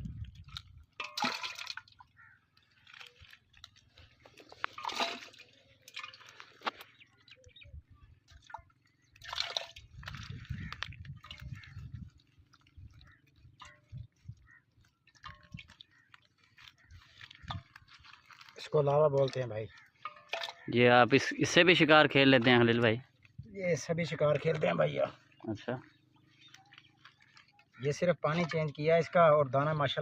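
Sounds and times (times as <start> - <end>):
water dripping: 0.0 - 7.6, 8.2 - 30.0
water sloshing and splashing: 0.0 - 30.0.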